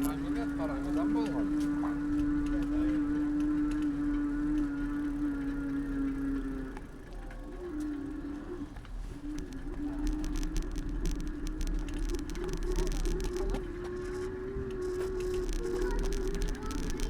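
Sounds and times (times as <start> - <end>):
rapid bicycle clicking: 0.0 - 17.0
steady hum: 0.0 - 17.0.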